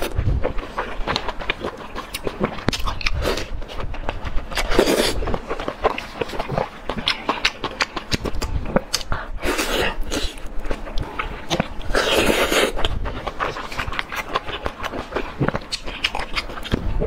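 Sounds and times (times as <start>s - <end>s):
chewing mouth clicks and smacks: 0.0s - 9.3s, 10.0s - 17.0s.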